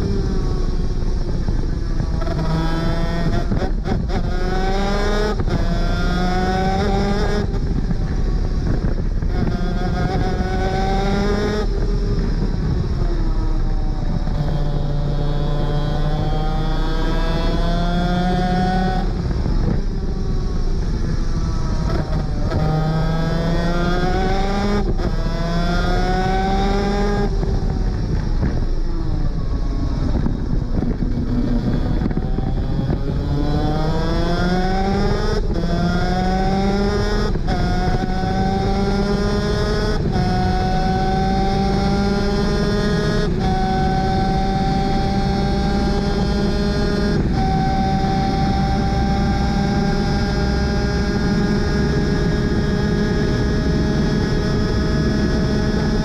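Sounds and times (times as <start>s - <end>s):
kart engine accelerating through gears: 0.0s - 56.0s
wind rush: 0.0s - 56.0s.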